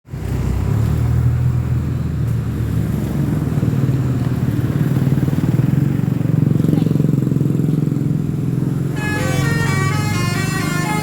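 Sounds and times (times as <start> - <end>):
bus diesel engine running: 0.1 - 11.0.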